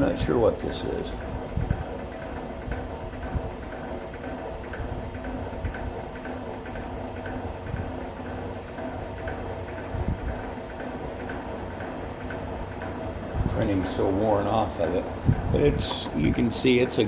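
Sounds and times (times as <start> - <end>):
machine motor whirring hum: 0.0 - 17.0.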